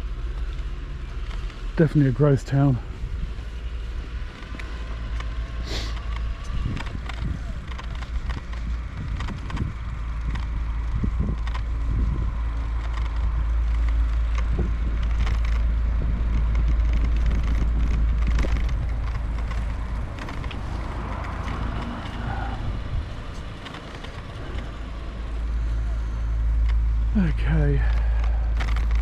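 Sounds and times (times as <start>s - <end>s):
bicycle rattles and knocks: 0.0s - 29.0s
road traffic: 0.0s - 29.0s
wind rumble on microphone: 0.0s - 29.0s.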